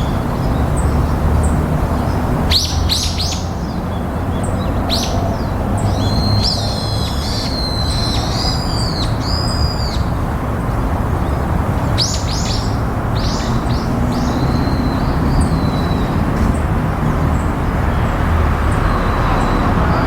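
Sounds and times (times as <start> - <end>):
small songbird calls: 0.0 - 10.3, 11.2 - 20.0.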